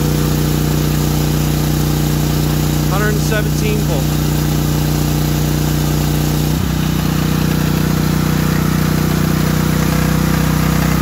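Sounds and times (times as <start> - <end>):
portable generator engine running: 0.0 - 11.0.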